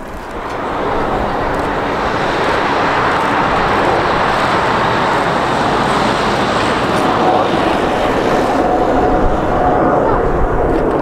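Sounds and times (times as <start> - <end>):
jet airliner passing: 0.0 - 11.0.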